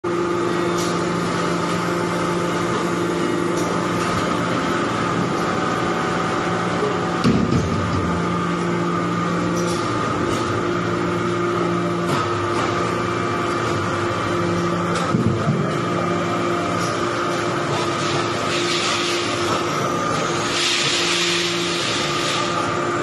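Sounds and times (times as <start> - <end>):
hydraulic press humming: 0.1 - 23.0.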